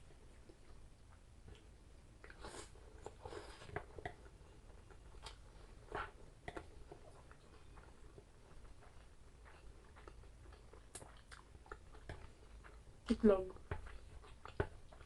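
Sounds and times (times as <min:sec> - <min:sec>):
person chewing: 0:00.1 - 0:15.0.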